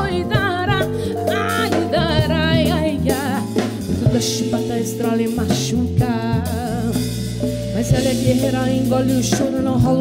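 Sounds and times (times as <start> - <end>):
soul-jazz band playing: 0.0 - 10.0
woman singing with vibrato: 0.0 - 10.0.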